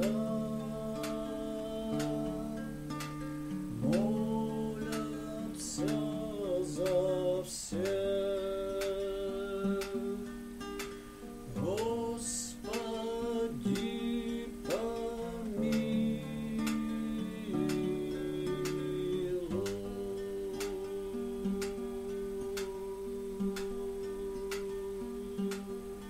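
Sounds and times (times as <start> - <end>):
man singing: 0.0 - 10.4, 11.5 - 26.0
acoustic guitar strumming: 0.0 - 26.0.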